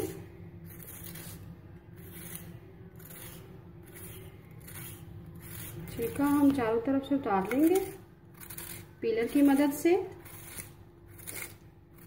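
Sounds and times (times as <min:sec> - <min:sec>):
vegetable peeler scraping: 0:00.0 - 0:12.0.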